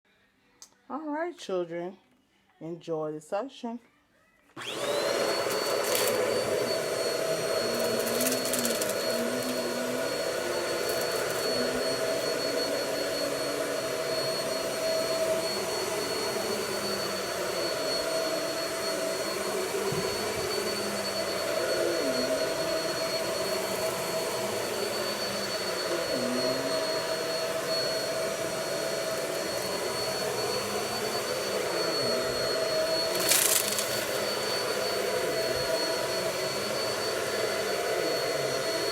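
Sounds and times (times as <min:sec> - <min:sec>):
vacuum cleaner motor whining: 0:04.6 - 0:38.9.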